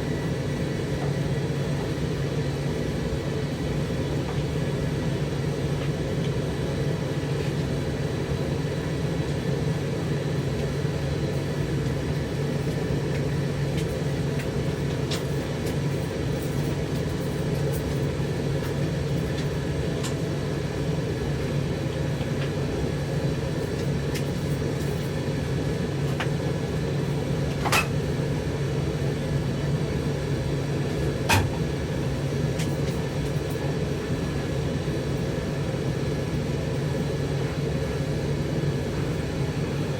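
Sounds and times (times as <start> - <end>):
tumble dryer running: 0.0 - 39.9.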